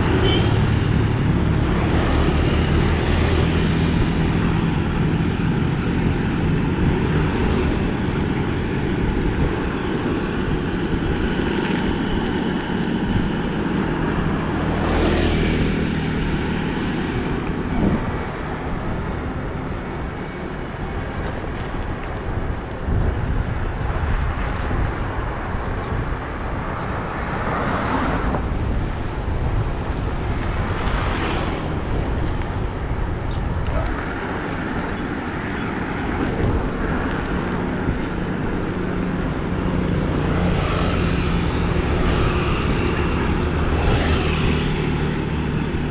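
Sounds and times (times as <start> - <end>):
passing motor traffic: 0.0 - 45.9
bicycle tyres rolling on road: 0.8 - 45.9.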